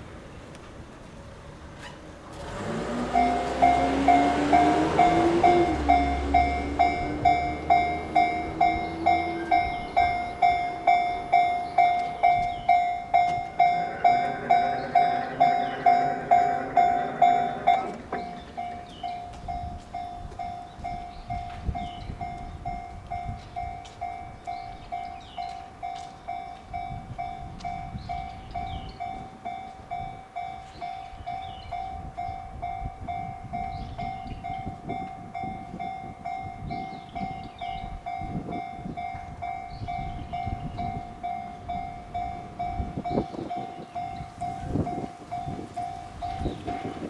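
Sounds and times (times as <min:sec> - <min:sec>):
low rumble of passing train: 0:00.0 - 0:47.0
electronic warning bell dinging: 0:03.1 - 0:25.6, 0:26.4 - 0:47.0.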